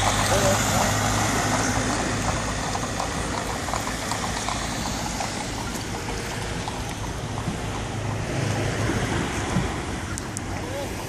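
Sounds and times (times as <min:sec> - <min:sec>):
cars driving by: 0:00.0 - 0:11.0
horse hooves clip-clopping: 0:00.0 - 0:11.0.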